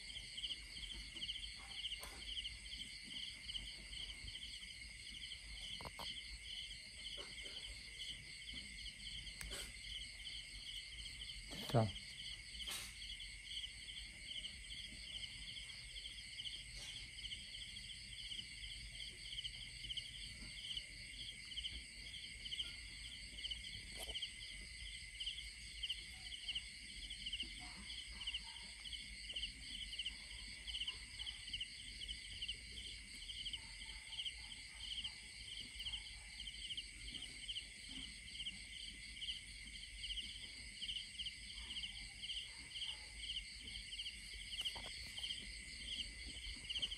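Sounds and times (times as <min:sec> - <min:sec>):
night insects trilling: 0:00.0 - 0:46.9.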